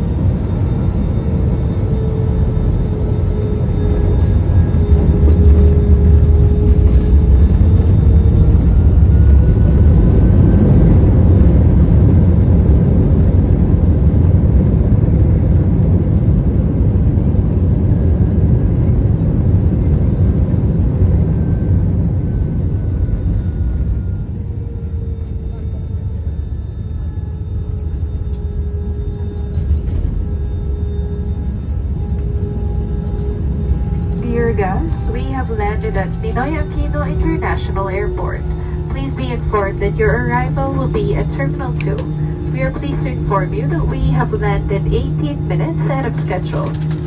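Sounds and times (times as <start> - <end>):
faint whine: 0.0 - 47.0
jet engine and airflow rumble: 0.0 - 47.0.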